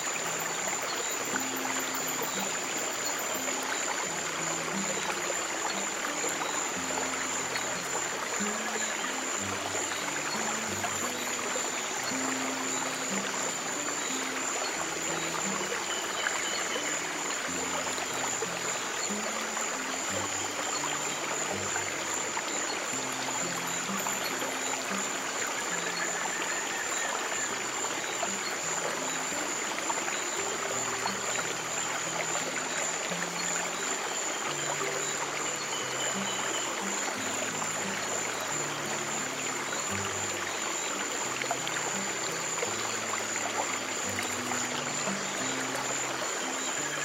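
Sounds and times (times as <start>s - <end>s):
stream water running: 0.0s - 47.0s.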